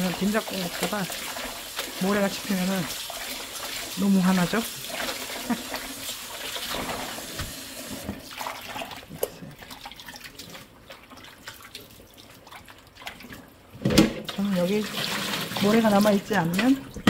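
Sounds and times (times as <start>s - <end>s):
water splashing in a bowl: 0.0s - 17.0s.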